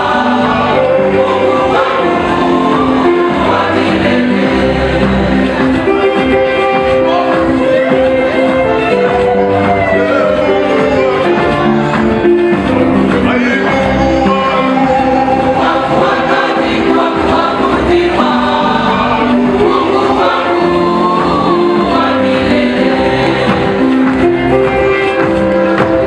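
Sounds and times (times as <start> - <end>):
choir singing gospel music: 0.0 - 26.0.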